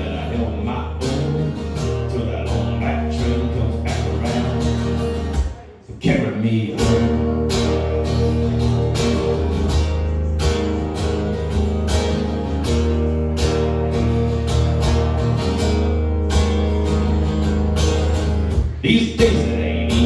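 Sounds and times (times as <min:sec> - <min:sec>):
guitar strumming: 0:00.0 - 0:05.7, 0:06.7 - 0:20.0.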